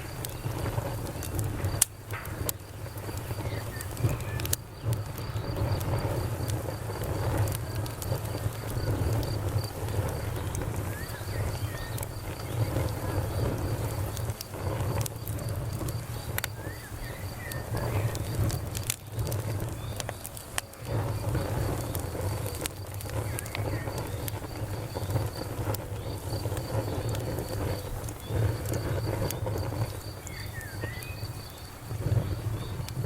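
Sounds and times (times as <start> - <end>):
campfire wood crackling: 0.0 - 33.0
cricket chirping: 0.0 - 33.0
sharp pops of fire: 0.0 - 33.0
steady low rumble: 0.0 - 33.0.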